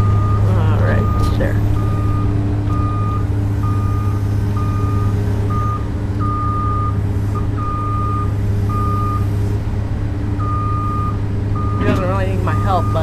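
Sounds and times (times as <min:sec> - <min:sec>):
excavator travel alarm beeping: 0:00.0 - 0:09.4, 0:10.4 - 0:13.0
diesel engine drone: 0:00.0 - 0:13.0.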